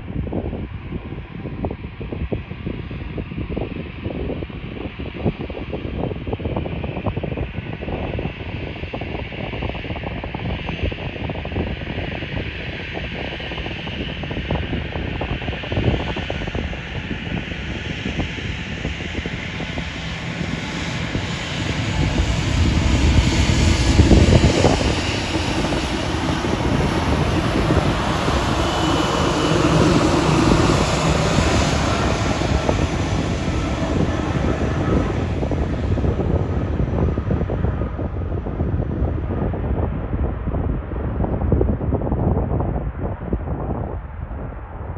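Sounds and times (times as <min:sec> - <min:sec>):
jet engines rumbling at takeoff: 0:00.0 - 0:44.9.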